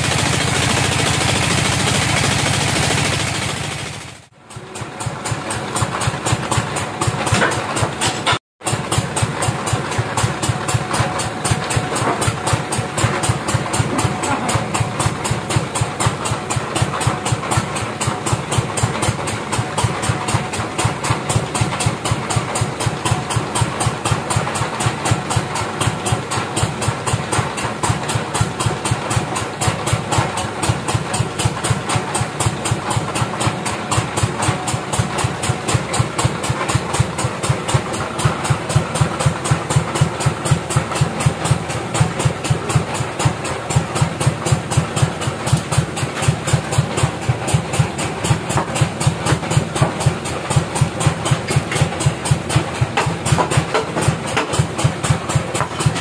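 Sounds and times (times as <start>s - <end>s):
engine idling: 0.0s - 8.0s, 8.6s - 56.0s.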